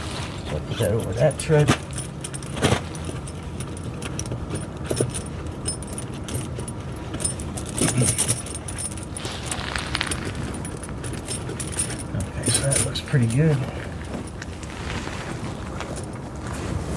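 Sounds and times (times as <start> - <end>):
tire chain links clinking: 0.0 - 16.3.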